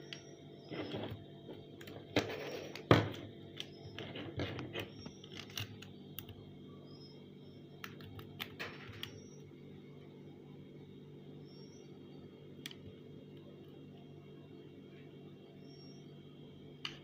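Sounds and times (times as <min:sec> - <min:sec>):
fridge humming: 0:00.0 - 0:17.0.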